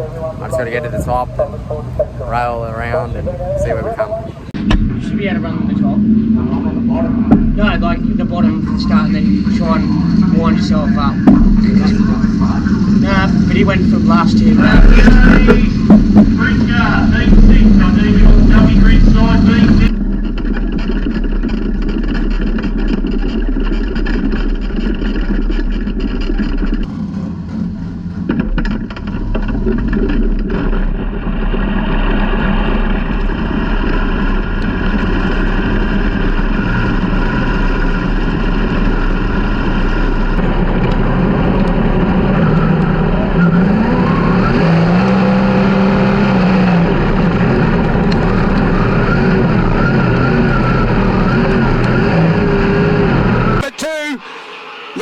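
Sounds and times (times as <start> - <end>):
race car engines running hard: 0.0 - 55.0.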